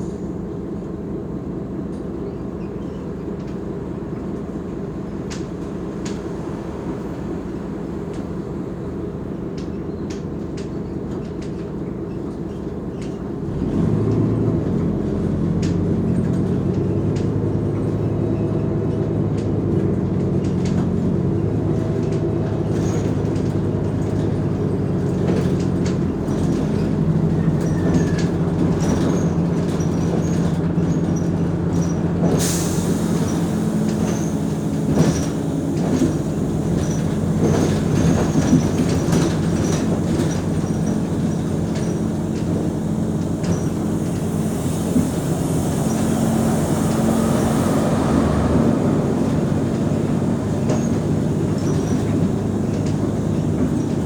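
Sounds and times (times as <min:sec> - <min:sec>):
bus body rattles and clicks: 0:00.0 - 0:54.0
bus engine pulling away: 0:00.0 - 0:54.0.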